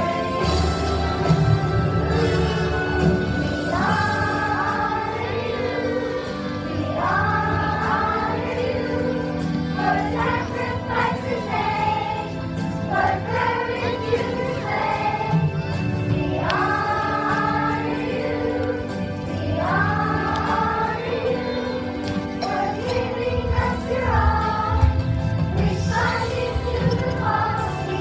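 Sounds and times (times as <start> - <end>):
instrumental accompaniment: 0.0 - 28.0
school choir singing: 0.0 - 28.0.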